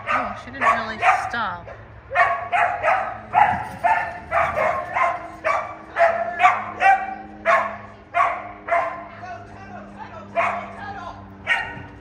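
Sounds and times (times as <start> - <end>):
dog barking excitedly: 0.0 - 9.1, 10.4 - 10.8, 11.4 - 11.9.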